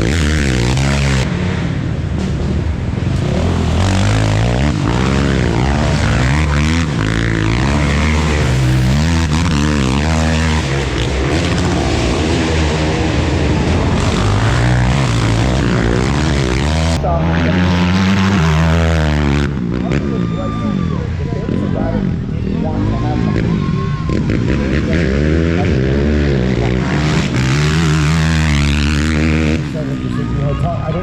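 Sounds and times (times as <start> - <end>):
quad engine revving: 0.0 - 31.0.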